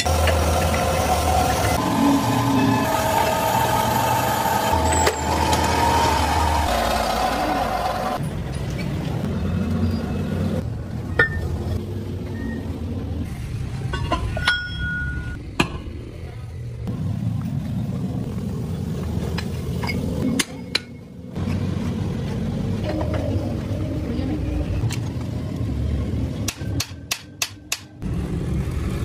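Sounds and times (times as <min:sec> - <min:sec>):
low workshop rumble: 0:00.0 - 0:28.8.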